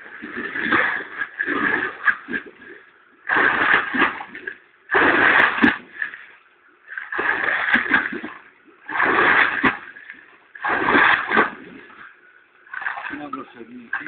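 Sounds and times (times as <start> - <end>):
person splashing in pool water: 0.1 - 6.3, 6.9 - 12.1, 12.7 - 13.3.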